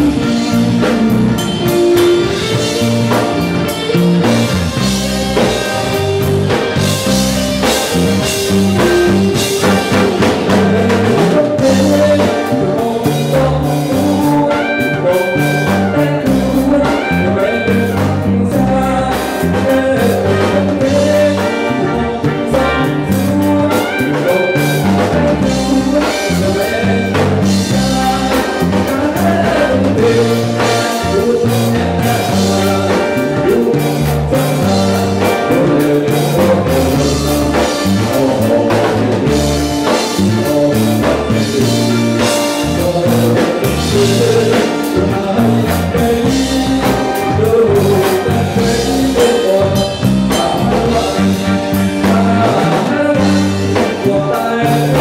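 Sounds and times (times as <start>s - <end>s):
man singing into microphone: 0.0s - 3.2s, 6.5s - 55.0s
live band playing upbeat song: 0.0s - 55.0s.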